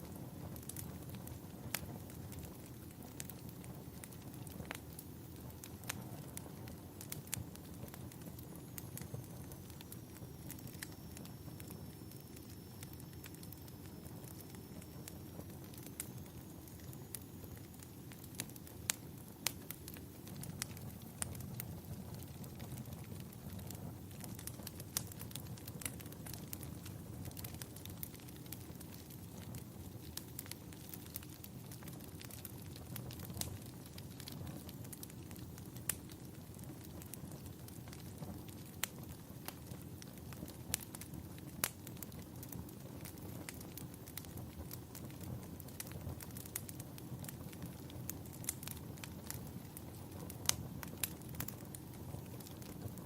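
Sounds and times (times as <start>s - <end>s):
low fire rumble: 0.0s - 53.0s
wood fire crackling: 0.0s - 53.0s.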